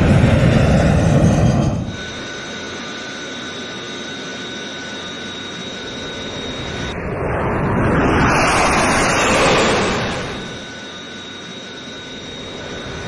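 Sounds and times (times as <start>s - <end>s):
jet engines in flight: 0.0s - 13.0s.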